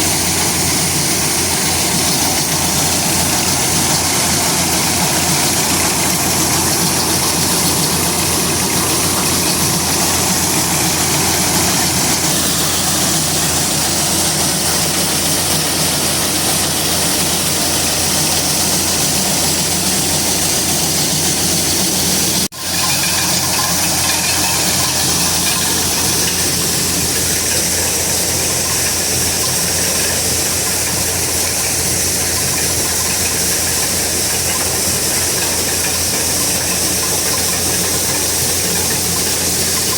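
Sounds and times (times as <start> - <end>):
harvester engine hum: 0.0 - 39.9
rushing mechanical noise: 0.0 - 39.9.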